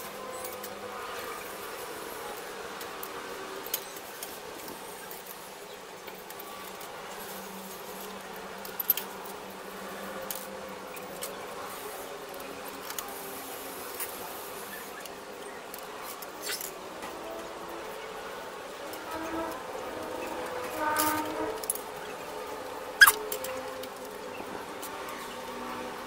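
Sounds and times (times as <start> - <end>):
steady buzzing drone: 0.0 - 26.0.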